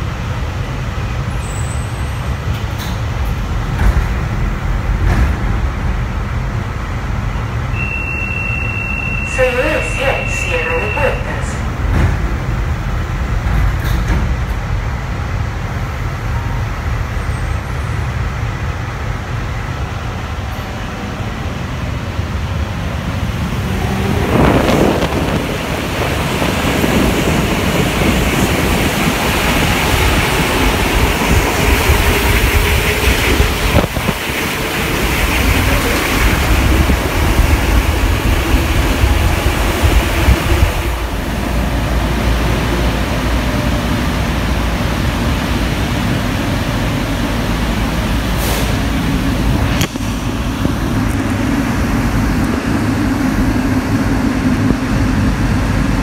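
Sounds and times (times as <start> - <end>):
metro train running rumble: 0.0 - 56.0.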